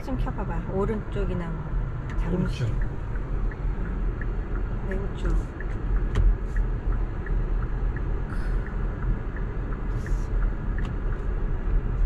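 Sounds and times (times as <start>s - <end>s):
low cabin rumble: 0.0s - 12.0s
turn signal ticking: 0.0s - 12.0s.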